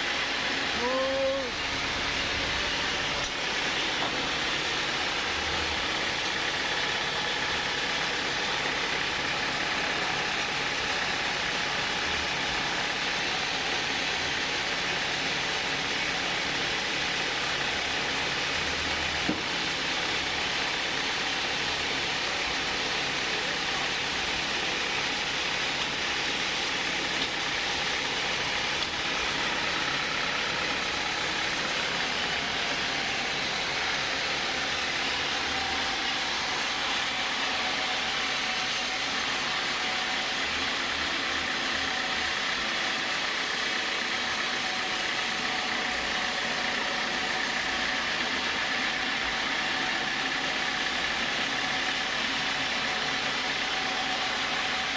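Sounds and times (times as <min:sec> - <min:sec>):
sawmill saw running: 0:00.0 - 0:54.9.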